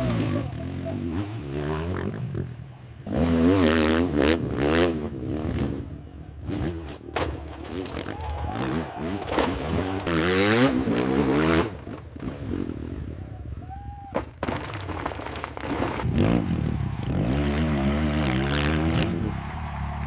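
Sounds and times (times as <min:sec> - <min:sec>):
dirt bike engine revving: 0:00.0 - 0:13.0, 0:15.9 - 0:19.6.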